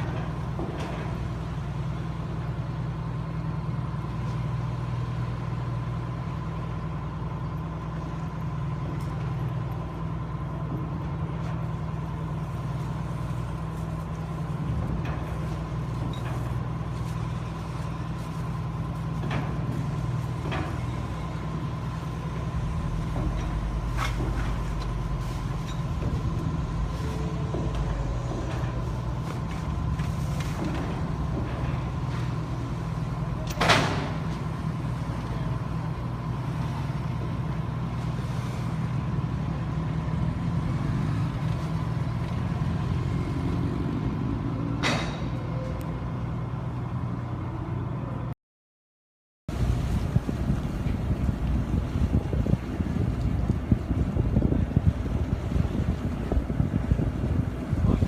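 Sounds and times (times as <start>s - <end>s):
ship engines droning: 0.0s - 48.4s, 49.5s - 58.0s.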